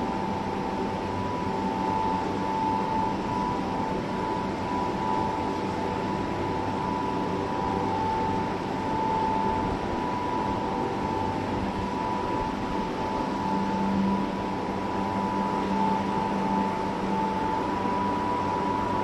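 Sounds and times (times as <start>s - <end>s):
high machine whine: 0.0s - 19.0s.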